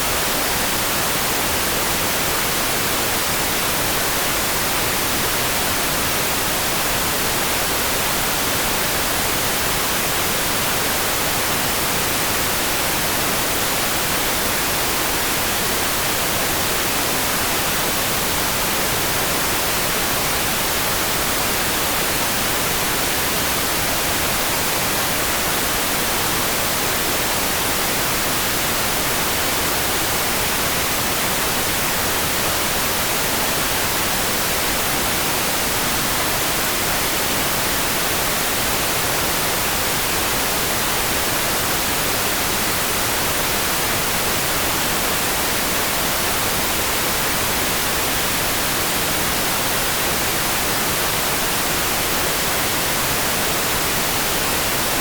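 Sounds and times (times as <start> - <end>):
steady noise hiss: 0.0 - 55.0.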